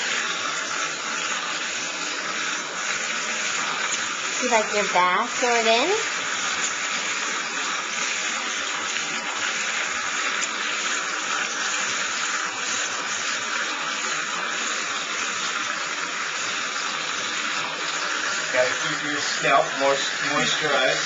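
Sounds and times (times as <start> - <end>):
tap water pouring into bath: 0.0 - 21.0.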